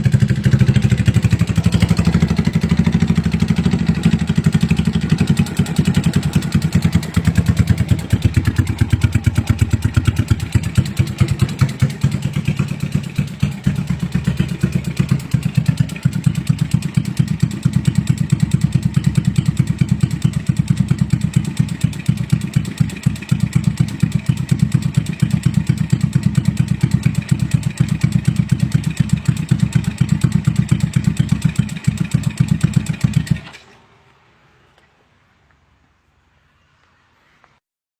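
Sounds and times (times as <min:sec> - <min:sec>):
motorcycle engine idling: 0:00.0 - 0:33.5.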